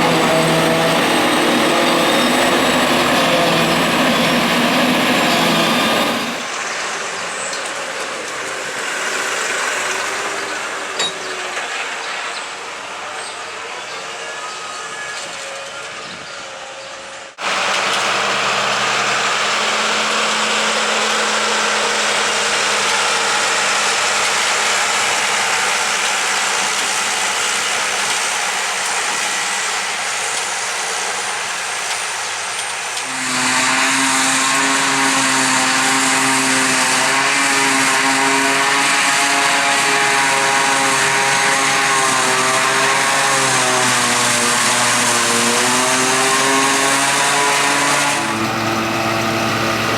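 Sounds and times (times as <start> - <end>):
diesel farm machinery running: 0.0 - 49.9.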